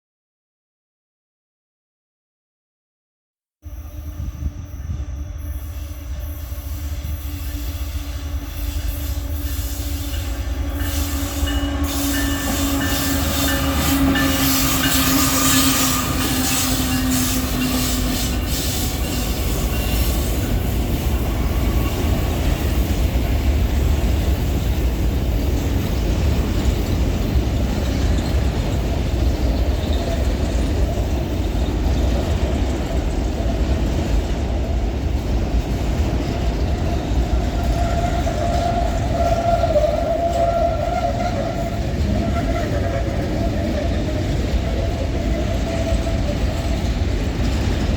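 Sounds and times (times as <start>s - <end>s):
freight train rumbling: 3.7s - 47.9s.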